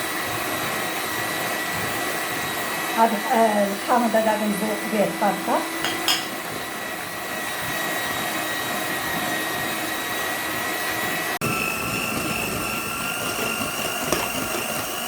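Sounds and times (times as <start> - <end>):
electric hand mixer whine: 0.0 - 15.0.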